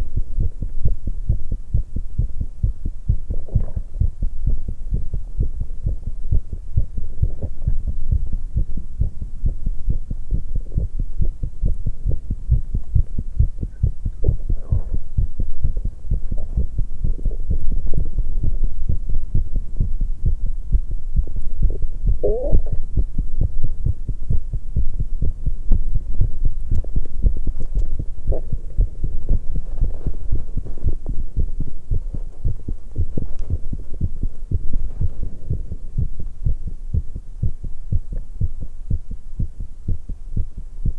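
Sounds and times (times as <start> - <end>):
fast heartbeat: 0.0 - 40.9.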